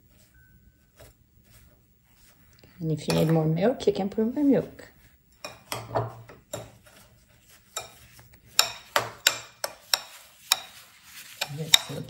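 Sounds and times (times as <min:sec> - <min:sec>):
spoon scraping ceramic bowl: 0:00.3 - 0:03.8, 0:05.4 - 0:12.0.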